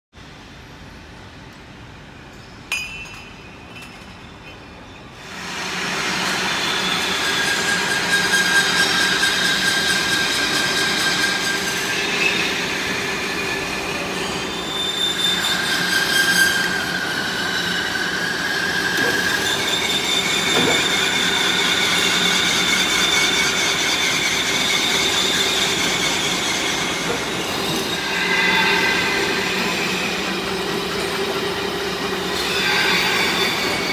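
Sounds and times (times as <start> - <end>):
metal-working machines humming: 1.5 - 33.9.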